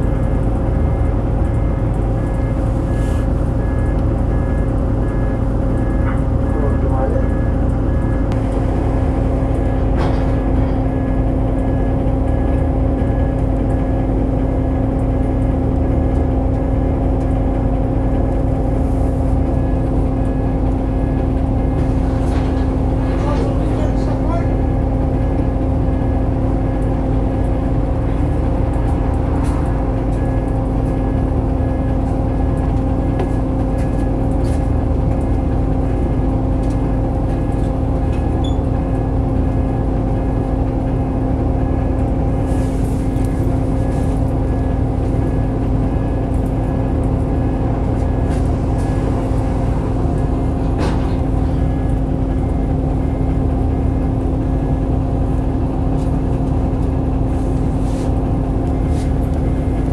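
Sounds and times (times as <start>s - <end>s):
bus diesel engine drone: 0.0s - 59.9s
gearbox whine: 0.0s - 59.9s.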